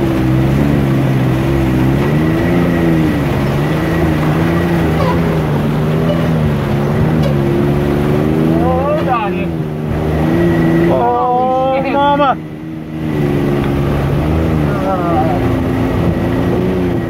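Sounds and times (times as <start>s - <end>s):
rush of a flooded river: 0.0s - 17.0s
vehicle engine running: 0.0s - 17.0s.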